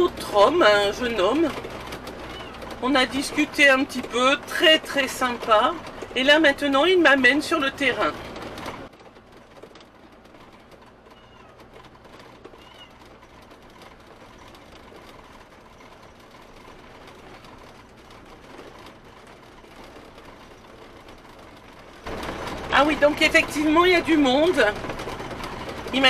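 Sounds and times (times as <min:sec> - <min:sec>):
low engine hum: 0:00.0 - 0:26.0
tyres crackling on gravel: 0:00.0 - 0:26.0.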